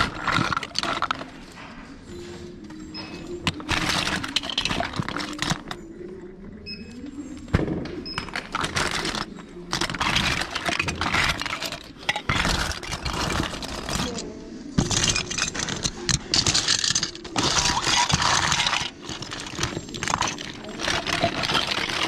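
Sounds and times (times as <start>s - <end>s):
plastic toys clattering: 0.0s - 5.9s, 7.3s - 22.0s.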